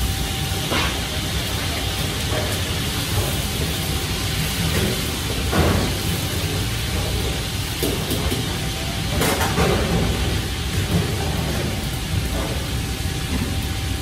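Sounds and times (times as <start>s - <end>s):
kitchen extraction hood: 0.0s - 14.0s
wok burners roaring: 0.0s - 14.0s.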